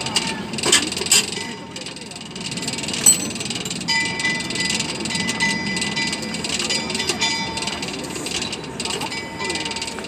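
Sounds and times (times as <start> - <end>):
rapid metallic ticks: 0.0 - 10.0
steady ringing tone: 0.1 - 10.0.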